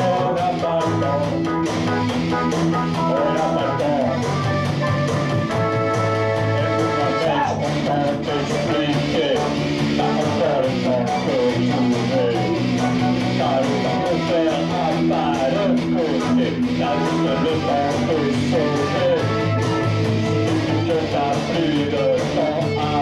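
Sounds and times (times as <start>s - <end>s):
electric guitar lead line: 0.0s - 23.0s
held backing chords: 0.0s - 23.0s.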